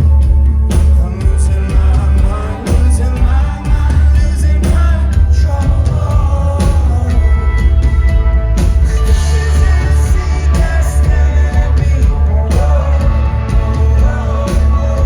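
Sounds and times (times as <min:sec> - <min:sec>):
lead vocalist singing: 0:00.0 - 0:15.0
live rock band playing: 0:00.0 - 0:15.0.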